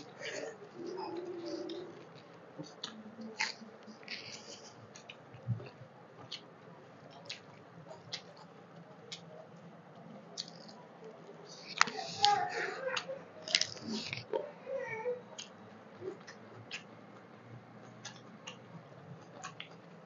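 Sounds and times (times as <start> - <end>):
quiet chewing: 0.0 - 14.6, 15.2 - 20.0.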